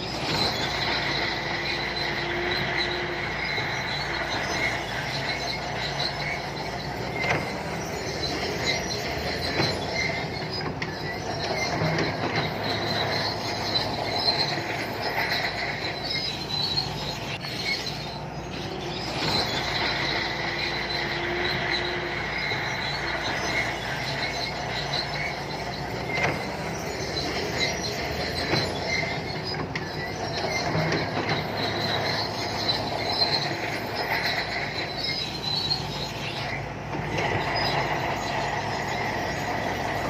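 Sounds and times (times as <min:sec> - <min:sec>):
bulldozer diesel engine: 0:00.0 - 0:40.0
high-pitched squeal of steel tracks: 0:00.0 - 0:40.0.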